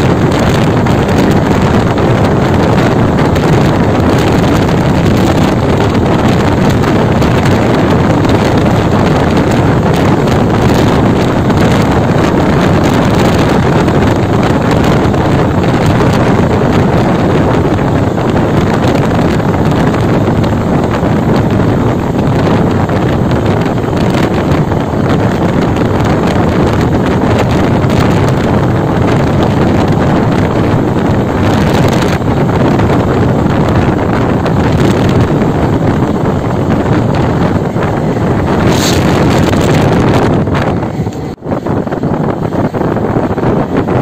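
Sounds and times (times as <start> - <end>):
motorcycle running: 0.0 - 44.0
road noise: 0.0 - 44.0
wind rushing on microphone: 0.0 - 44.0.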